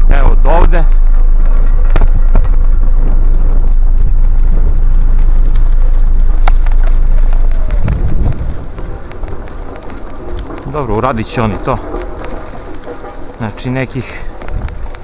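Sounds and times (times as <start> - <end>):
loader diesel engine running: 0.0 - 15.0
motorcycle riding on gravel: 0.0 - 15.0
wind on microphone: 0.0 - 15.0.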